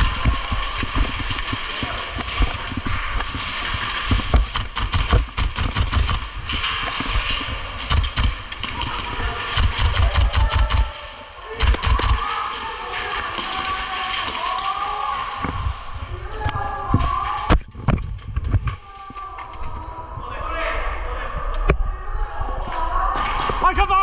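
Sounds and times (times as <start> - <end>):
loud cracks: 0.0 - 19.6
sharp clicks and knocks: 0.0 - 19.6.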